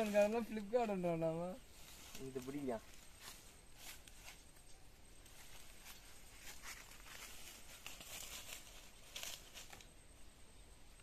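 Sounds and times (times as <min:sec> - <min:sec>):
soft footsteps on leaves: 0:00.0 - 0:10.0
leaves and twigs crunching: 0:00.0 - 0:10.3
rustling in undergrowth: 0:00.0 - 0:10.4.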